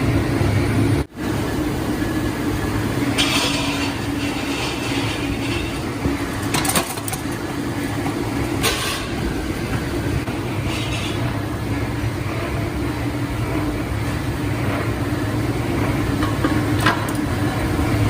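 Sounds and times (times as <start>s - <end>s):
factory machinery humming: 0.0s - 18.0s.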